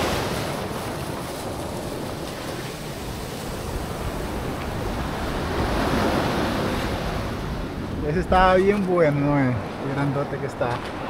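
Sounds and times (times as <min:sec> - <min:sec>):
small waves on a sandy beach: 0:00.0 - 0:11.0
wind rumbling on microphone: 0:00.0 - 0:11.0.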